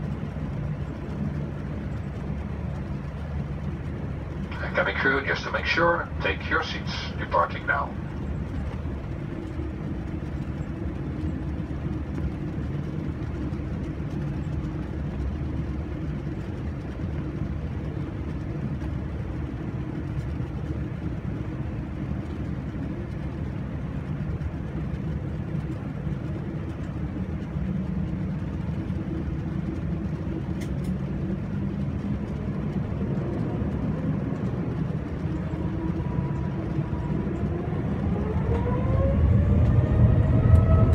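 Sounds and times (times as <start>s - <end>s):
jet engine rumble from cabin: 0.0s - 40.9s.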